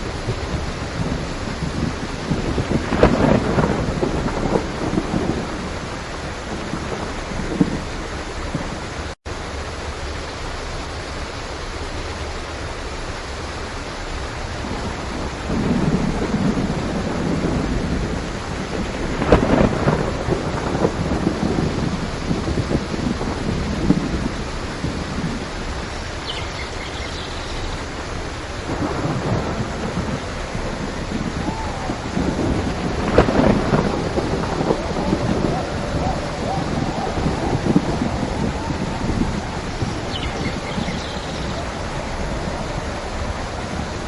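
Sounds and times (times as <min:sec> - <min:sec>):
rolling thunder: 0:00.0 - 0:09.2, 0:14.4 - 0:44.0
heavy rain: 0:00.0 - 0:44.0.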